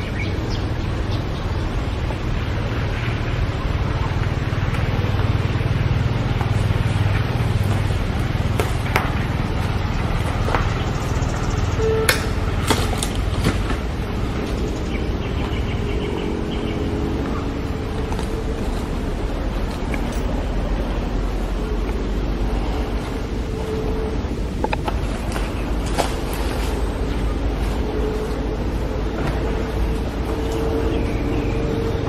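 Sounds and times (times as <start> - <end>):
low rumble: 0.0 - 32.0.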